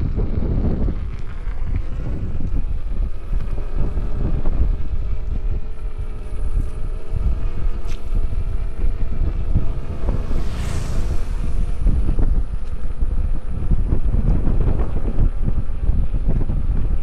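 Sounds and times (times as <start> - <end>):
faint motor hum: 0.0 - 17.0
wind buffeting microphone: 0.0 - 17.0.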